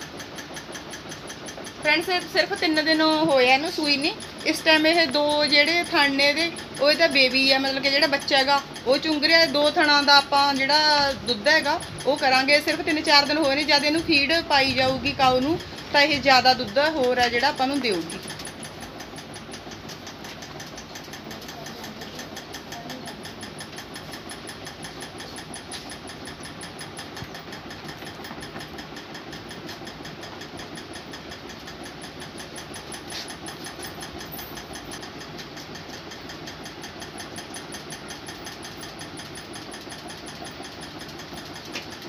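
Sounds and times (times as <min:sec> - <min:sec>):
machine running with fast beat: 0:00.0 - 0:42.0.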